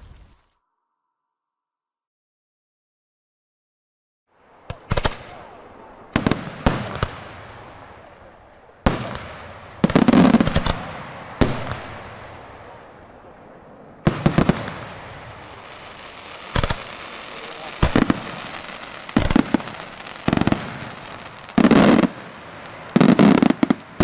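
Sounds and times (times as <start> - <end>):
rolling echo: 4.4 - 24.0
firework shells bursting: 4.6 - 24.0.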